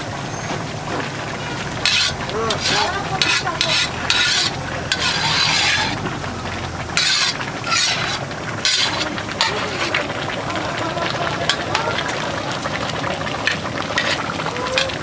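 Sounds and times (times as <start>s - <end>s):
rice sizzling: 0.0s - 15.0s
metal ladle scraping a pot: 1.2s - 15.0s.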